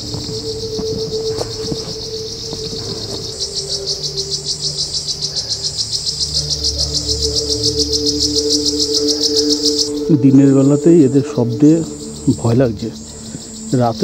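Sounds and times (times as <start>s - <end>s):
insects buzzing and pulsing: 0.0s - 14.0s.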